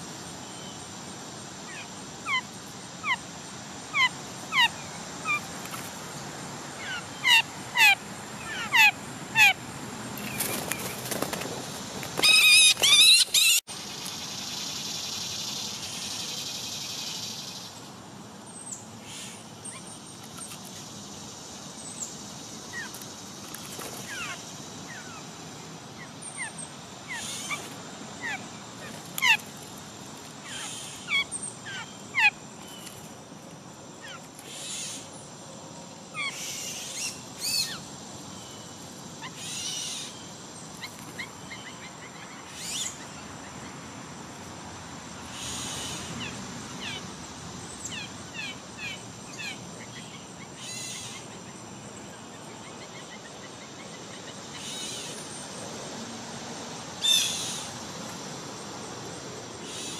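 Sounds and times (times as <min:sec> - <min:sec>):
small songbirds chirping: 0:00.0 - 0:59.9
steady high hiss: 0:00.0 - 0:59.9.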